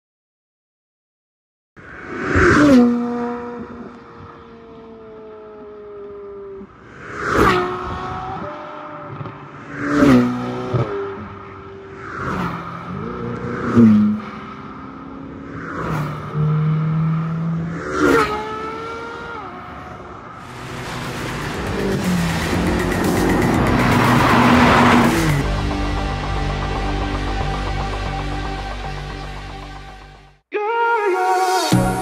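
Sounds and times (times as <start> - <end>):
cars passing close by: 1.8 - 28.1.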